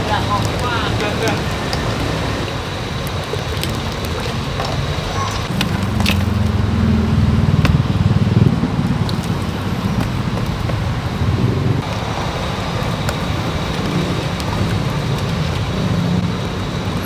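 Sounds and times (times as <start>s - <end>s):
busy road traffic: 0.0s - 17.0s
vehicle passing close: 0.0s - 17.0s.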